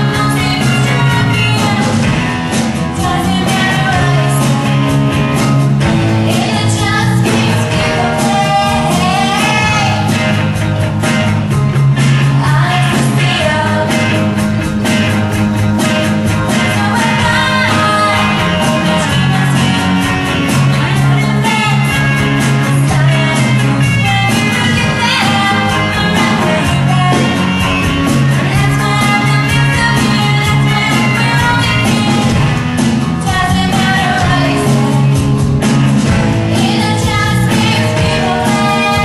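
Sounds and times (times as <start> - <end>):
woman singing lead: 0.0 - 10.5, 12.0 - 35.4, 36.0 - 39.0
live rock band playing: 0.0 - 39.0.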